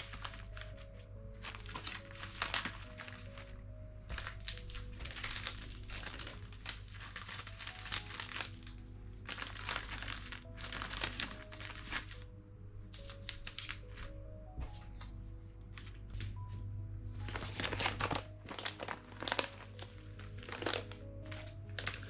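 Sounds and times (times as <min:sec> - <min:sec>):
packaging crinkling and rustling: 0:00.0 - 0:12.2, 0:13.0 - 0:16.5, 0:17.2 - 0:22.0
soft background music: 0:00.0 - 0:22.0.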